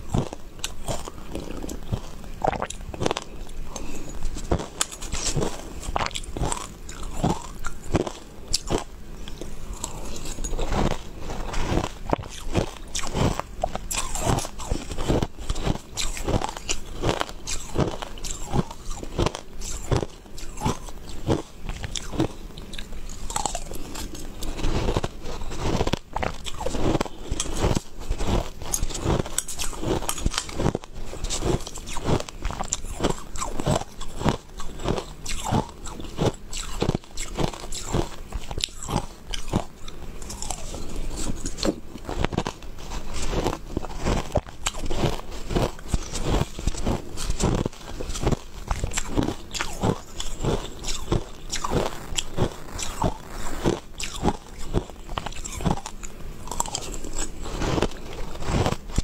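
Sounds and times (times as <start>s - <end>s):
crunching and chewing ice: 0.0s - 59.0s.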